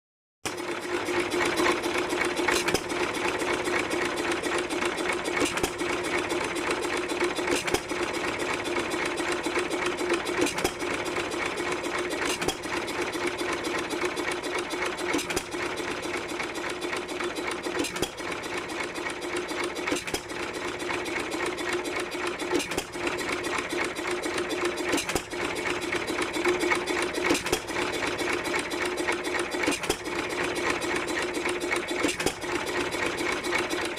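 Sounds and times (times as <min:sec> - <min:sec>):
stationary engine clattering: 0:00.4 - 0:33.9.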